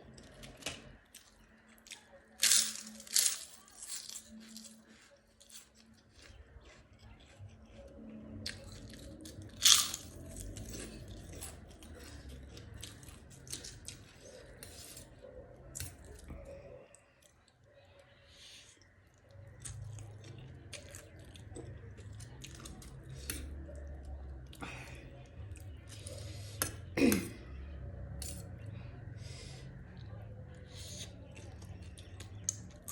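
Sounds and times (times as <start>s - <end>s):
chewing and crunching food: 0.0s - 32.9s.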